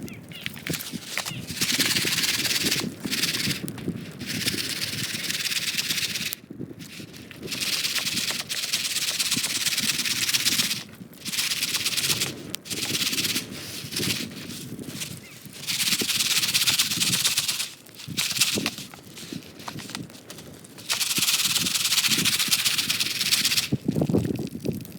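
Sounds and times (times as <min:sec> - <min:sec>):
popcorn kernels rattling in pan: 0:00.5 - 0:24.2.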